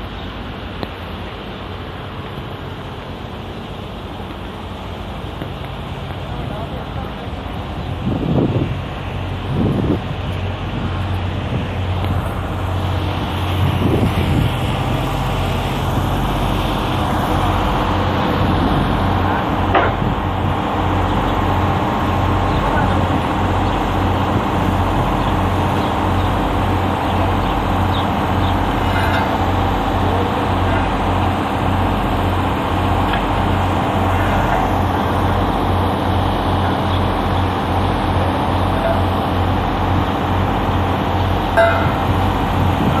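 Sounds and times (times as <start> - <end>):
industrial machinery humming: 0.0 - 43.0.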